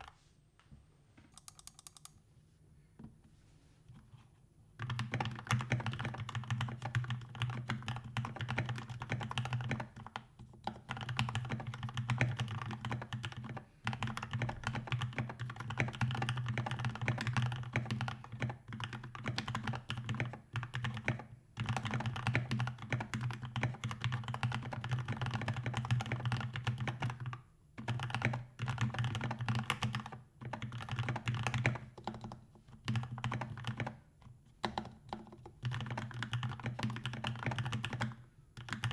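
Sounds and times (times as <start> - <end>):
fast typing on mechanical keyboard: 1.4 - 2.1, 4.8 - 38.9.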